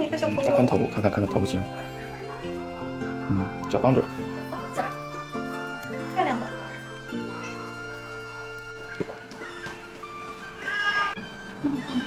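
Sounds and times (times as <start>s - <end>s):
soft sustained background music: 0.0s - 12.0s.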